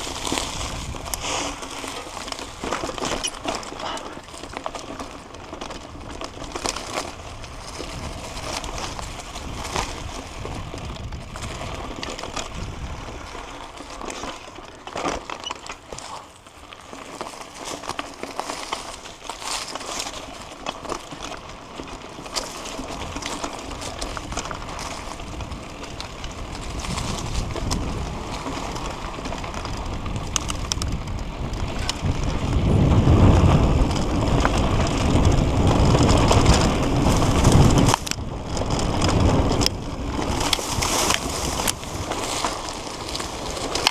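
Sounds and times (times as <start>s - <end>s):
wind rumble on microphone: 0.0s - 14.7s, 21.1s - 43.9s
bike rattles and clicks: 0.0s - 43.9s
bike tyres on dirt trail: 0.0s - 43.9s.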